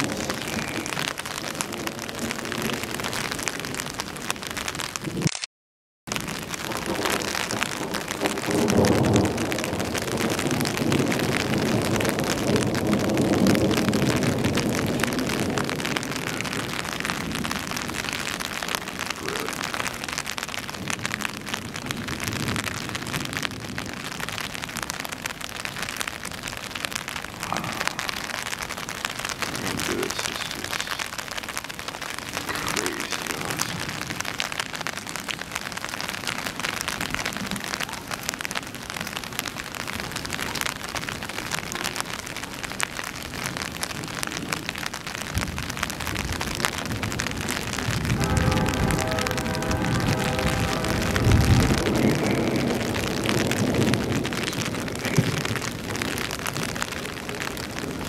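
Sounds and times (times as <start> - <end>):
low rumble of thunder: 0.0 - 5.2, 6.1 - 31.0, 32.3 - 58.0
steady rain falling: 0.0 - 5.4, 6.1 - 58.0.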